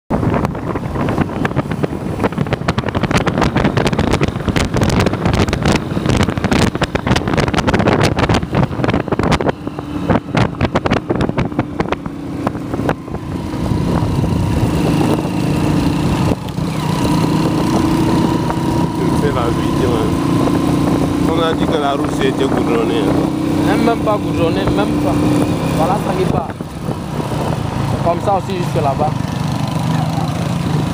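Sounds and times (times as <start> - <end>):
wind buffeting microphone: 0.1 - 29.9
engine whine: 0.1 - 30.9
motorcycle engine droning: 0.1 - 30.9.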